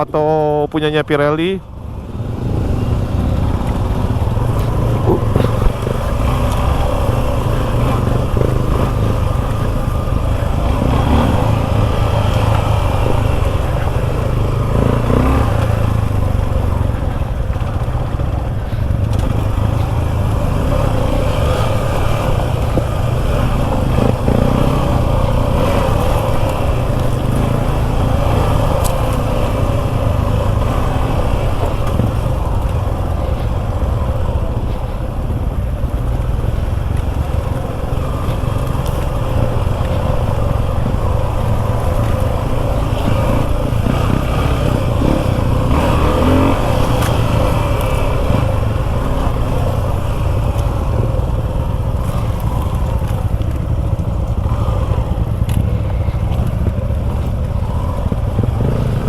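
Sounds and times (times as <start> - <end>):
heavy low rumble: 0.0 - 59.0
motorcycle engine running: 0.0 - 59.0.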